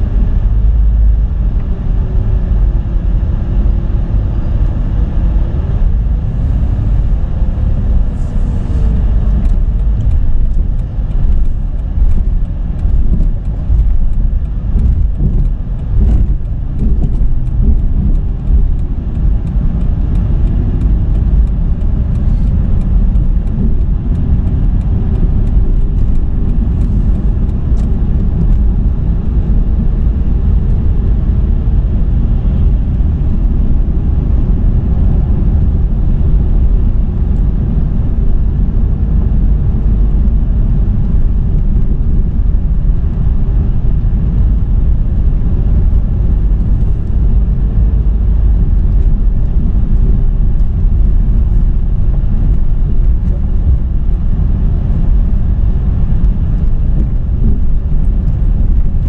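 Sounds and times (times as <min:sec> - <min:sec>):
car engine hum: 0:00.0 - 0:59.0
low road rumble in car: 0:00.0 - 0:59.0.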